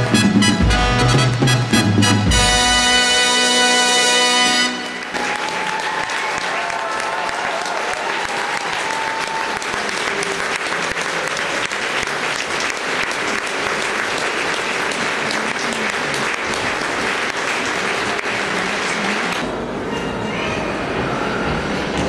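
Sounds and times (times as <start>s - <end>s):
crowd applauding: 0.6s - 19.5s.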